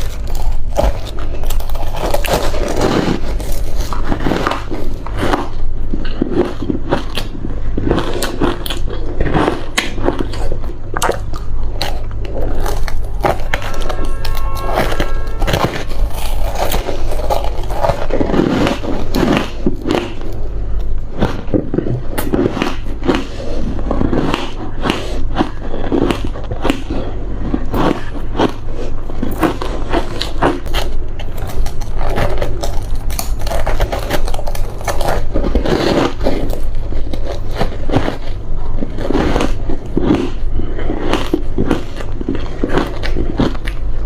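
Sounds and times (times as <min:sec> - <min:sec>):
crunching ice: 0:00.0 - 0:43.8
low hum: 0:00.0 - 0:44.0.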